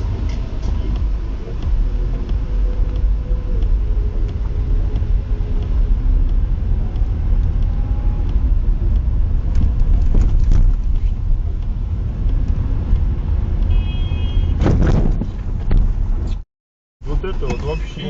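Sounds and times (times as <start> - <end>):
car engine and road noise: 0.0 - 16.4, 17.0 - 18.0.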